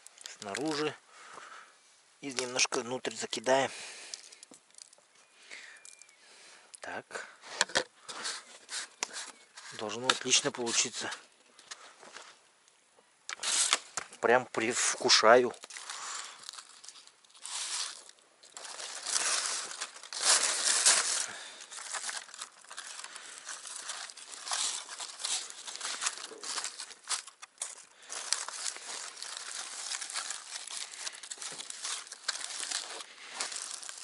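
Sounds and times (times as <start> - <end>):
aluminium foil crinkling: 0.0 - 1.0, 2.2 - 6.2, 8.0 - 11.9, 13.3 - 34.0.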